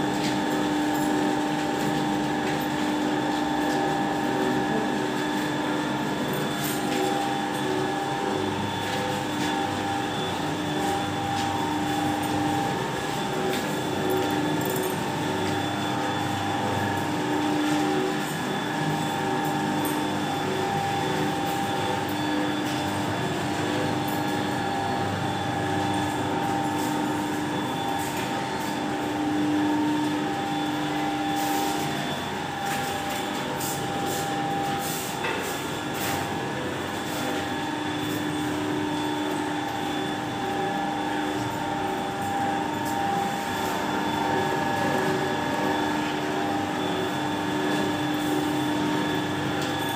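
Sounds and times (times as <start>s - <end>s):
noodle machine motor humming: 0.0s - 49.9s.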